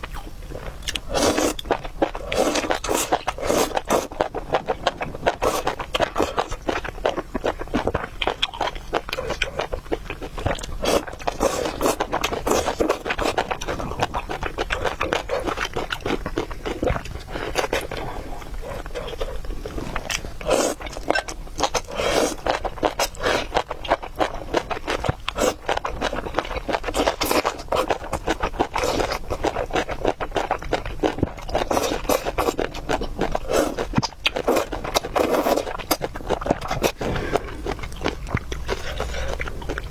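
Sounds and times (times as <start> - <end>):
chewing: 0.0 - 39.9.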